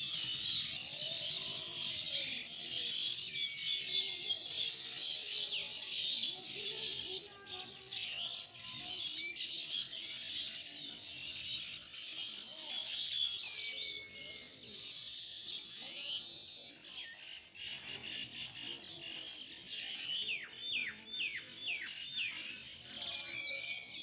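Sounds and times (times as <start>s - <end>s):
weaver birds chattering: 0.0s - 24.0s.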